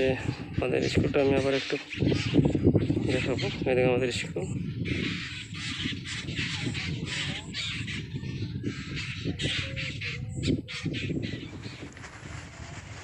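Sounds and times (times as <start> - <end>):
birds giving harsh calls: 0.0 - 12.6.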